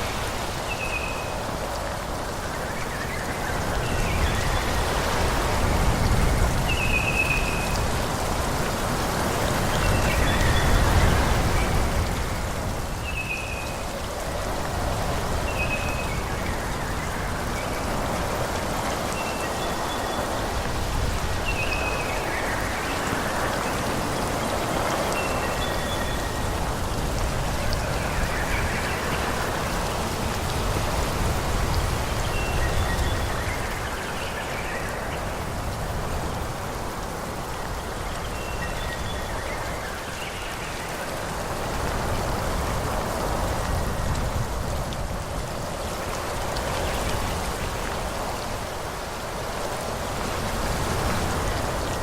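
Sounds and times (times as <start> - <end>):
wind rushing through trees: 0.0 - 52.0.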